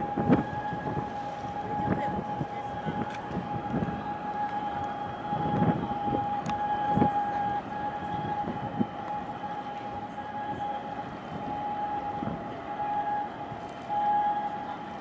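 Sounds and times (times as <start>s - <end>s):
high-pitched warning tone: 0.0s - 15.0s.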